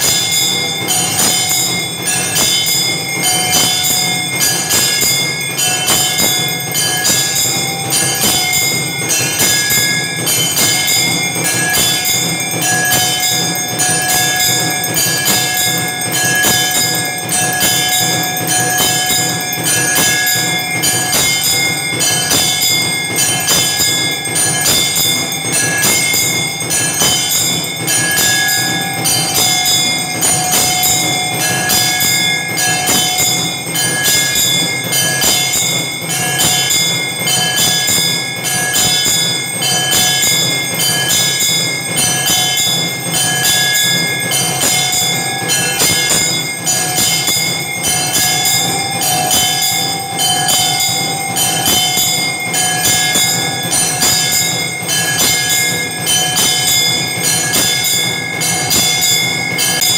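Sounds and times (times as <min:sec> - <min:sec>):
bells ringing: 0:00.0 - 0:59.9
long ringing tones: 0:00.0 - 0:59.9.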